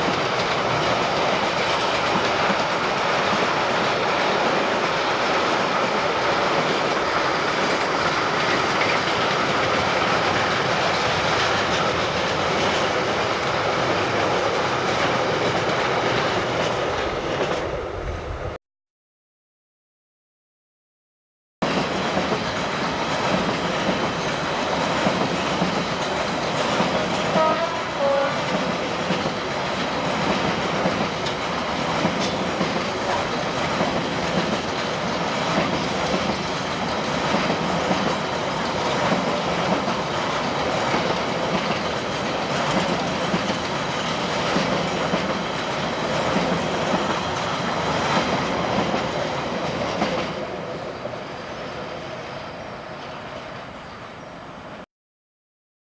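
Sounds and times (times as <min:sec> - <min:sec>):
freight train rumbling past: 0:00.0 - 0:18.6, 0:21.6 - 0:54.8.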